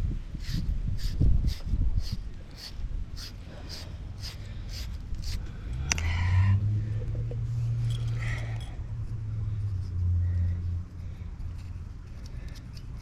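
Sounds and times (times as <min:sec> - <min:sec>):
low engine-like rumble: 0:00.9 - 0:13.0.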